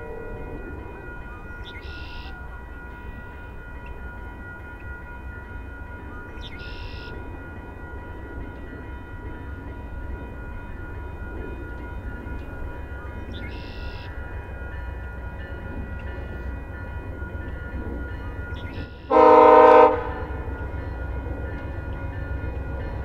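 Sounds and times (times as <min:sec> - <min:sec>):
distant train rumble: 0:00.0 - 0:23.0.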